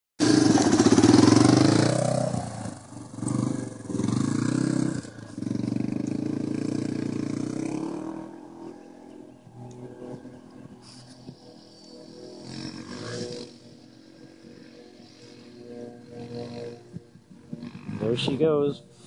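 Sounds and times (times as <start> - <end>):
dirt bike engine revving: 0.2 - 19.0.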